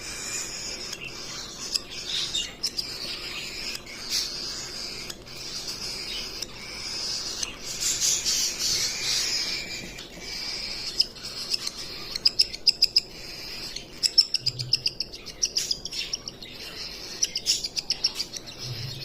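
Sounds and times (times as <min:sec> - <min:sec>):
cockatiel chattering and squawking: 0:00.0 - 0:19.0.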